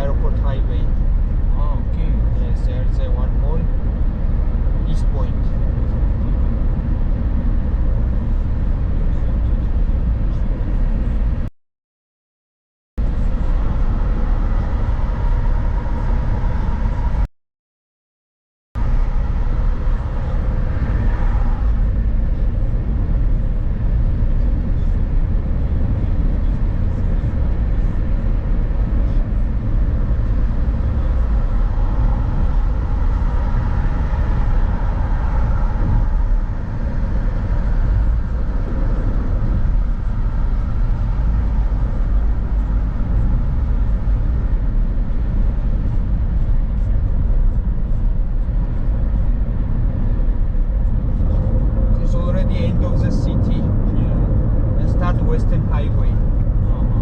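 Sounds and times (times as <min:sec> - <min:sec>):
vehicle road and engine rumble: 0:00.0 - 0:11.5, 0:13.0 - 0:17.3, 0:18.8 - 0:57.0.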